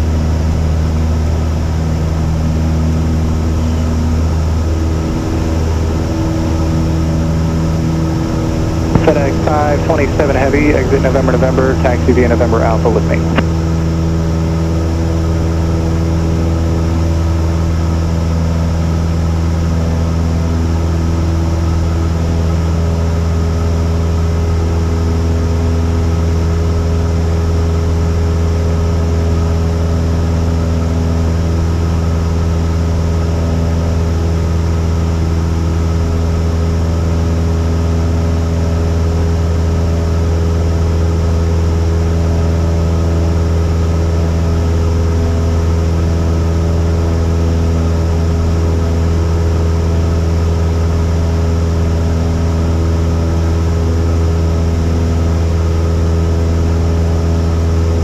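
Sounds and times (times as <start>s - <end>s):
airplane engine droning in cabin: 0.0s - 58.0s.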